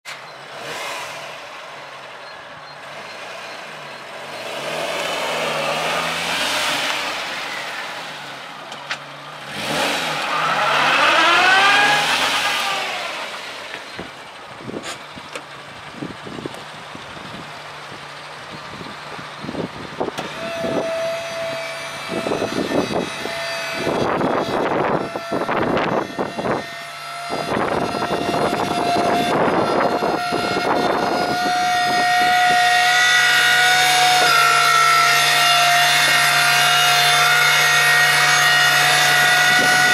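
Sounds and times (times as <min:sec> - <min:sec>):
truck engine driving by: 0:00.1 - 0:39.9.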